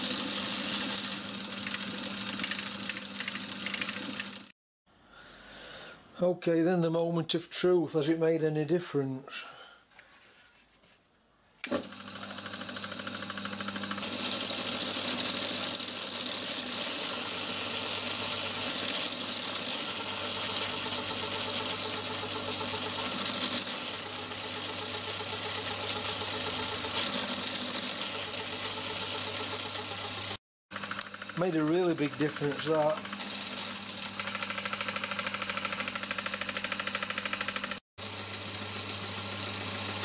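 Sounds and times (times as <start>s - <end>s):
lathe motor running: 0.0s - 4.5s, 11.7s - 40.0s.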